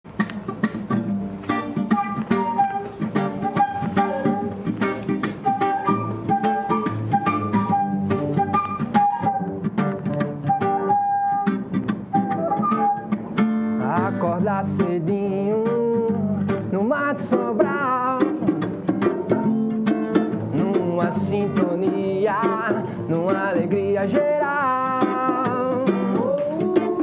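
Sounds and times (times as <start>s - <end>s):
acoustic guitar plucking rhythm: 0.0s - 27.0s.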